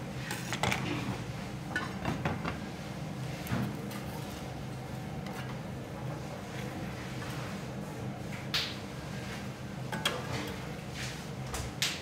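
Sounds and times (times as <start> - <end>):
kitchen machinery hum: 0.0 - 12.0.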